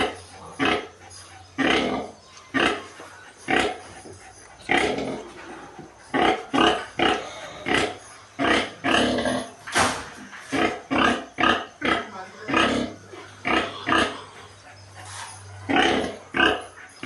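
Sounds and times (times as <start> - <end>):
pigs grunting: 0.0 - 17.0.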